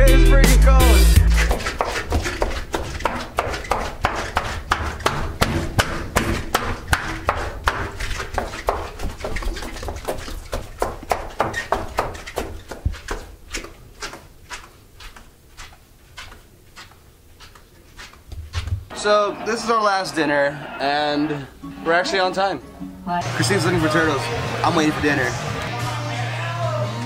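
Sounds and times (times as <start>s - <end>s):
hurried footsteps: 0.8s - 23.2s.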